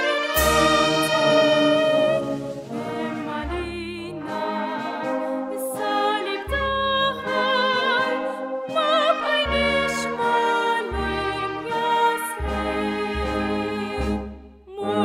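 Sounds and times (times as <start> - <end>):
instrumental accompaniment: 0.0 - 15.0
woman singing a hymn: 1.0 - 15.0.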